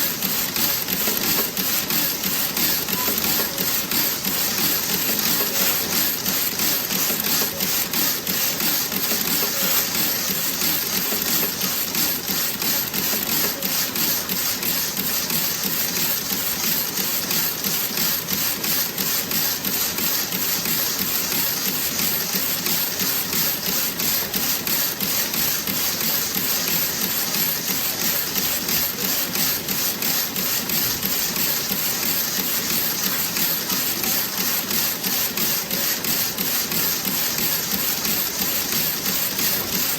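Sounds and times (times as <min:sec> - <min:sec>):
knitting machine clattering: 0:00.0 - 0:39.9.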